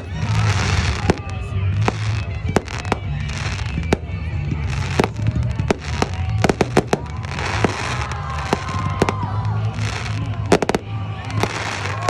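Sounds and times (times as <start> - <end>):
fireworks bangs: 0.0 - 12.0
fireworks whistling: 0.0 - 12.0.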